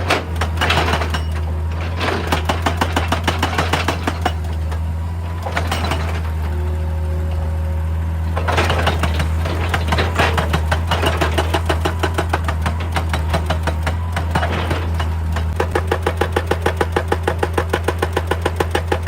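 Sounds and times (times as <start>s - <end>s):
diesel engine hum: 0.0s - 19.0s
hydraulic breaker hammering: 0.0s - 19.0s.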